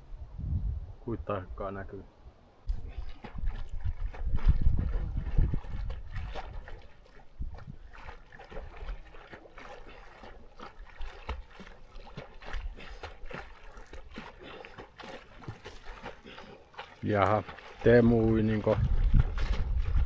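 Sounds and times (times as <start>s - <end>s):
lake water splashing: 2.7s - 20.0s.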